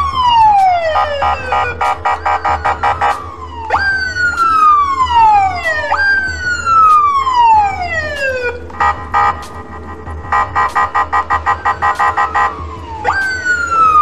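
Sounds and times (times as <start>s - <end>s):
electronic police siren: 0.0s - 14.0s.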